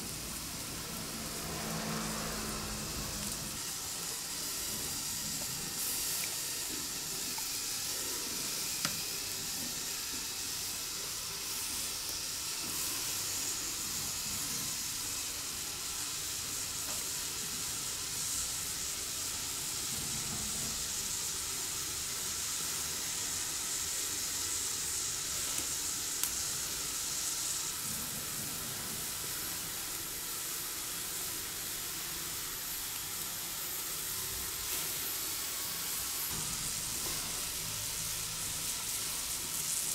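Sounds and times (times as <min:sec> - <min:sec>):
chestnuts sizzling on a grill: 0:00.0 - 0:39.9.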